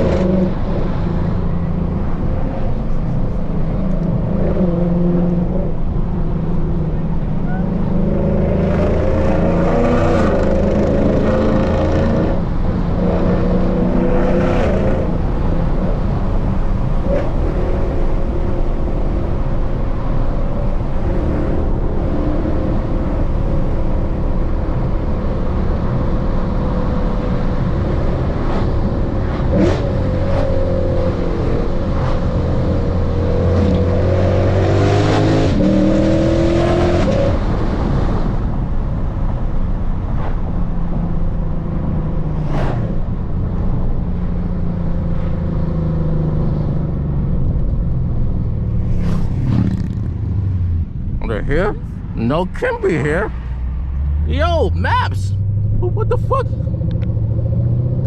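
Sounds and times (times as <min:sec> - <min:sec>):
car engine drone: 0:00.0 - 0:58.0.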